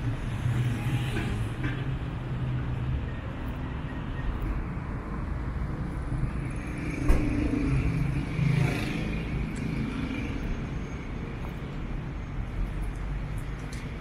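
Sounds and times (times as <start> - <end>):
rumble of motor vehicles: 0.0 - 14.0.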